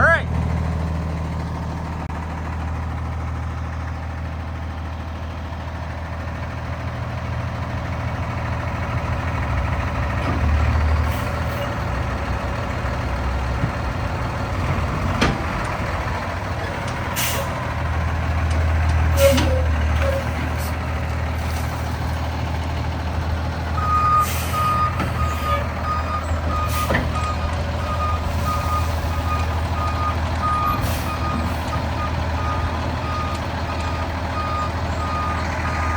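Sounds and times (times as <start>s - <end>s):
diesel truck engine running: 0.0s - 35.9s.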